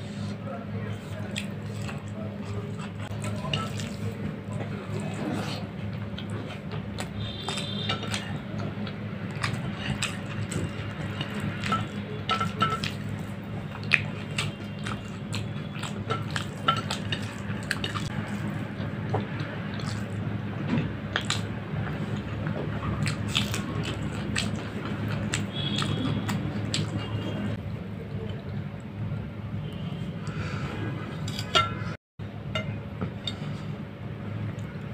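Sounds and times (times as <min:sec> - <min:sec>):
chewing: 0:00.2 - 0:28.9.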